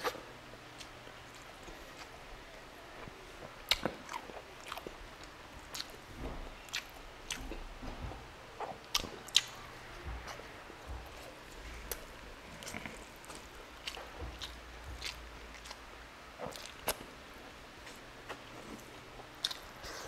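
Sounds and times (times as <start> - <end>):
person chewing food: 0.0 - 2.2, 3.0 - 7.7, 8.6 - 20.0.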